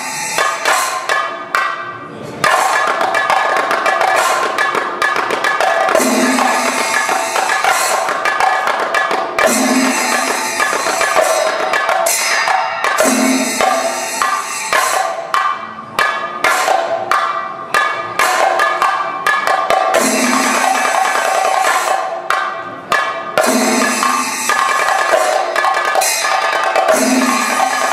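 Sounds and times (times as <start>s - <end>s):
ringing hand cymbals: 0.0s - 4.7s, 5.8s - 27.9s
drums played with sticks: 0.0s - 27.9s
sharp drum accents: 2.4s - 27.9s.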